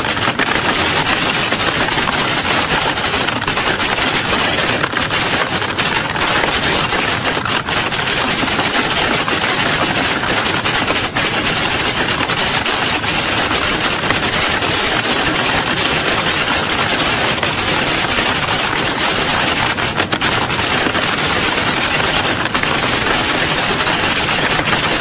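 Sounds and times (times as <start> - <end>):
many keyboards clattering: 0.0 - 25.0.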